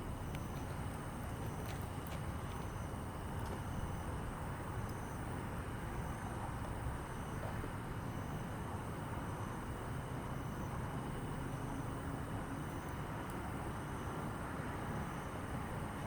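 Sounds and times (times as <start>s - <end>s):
campfire burning: 0.0s - 14.5s
road traffic rumble: 0.0s - 16.0s.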